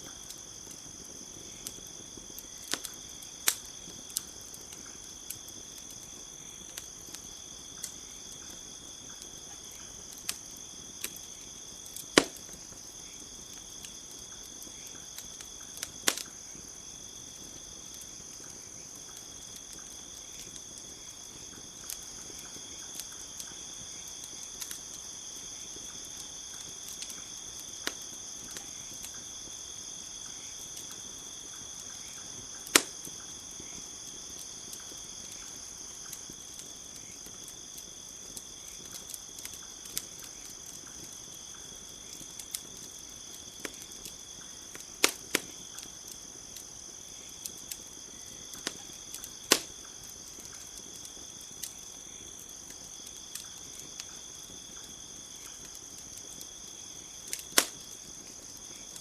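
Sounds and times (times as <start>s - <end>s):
campfire crackling: 0.0s - 59.0s
crickets chirping: 0.0s - 59.0s.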